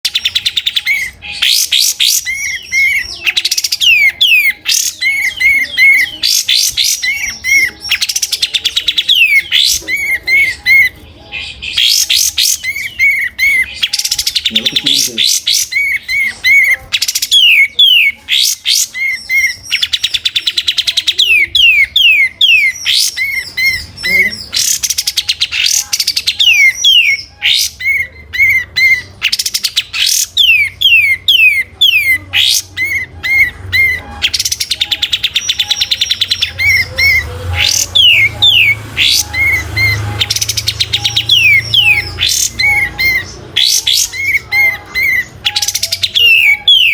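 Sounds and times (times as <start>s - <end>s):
bulbul singing: 0.0s - 46.9s.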